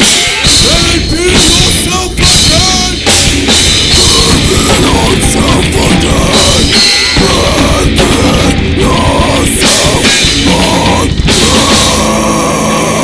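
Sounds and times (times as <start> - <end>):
death metal band playing: 0.0 - 13.0.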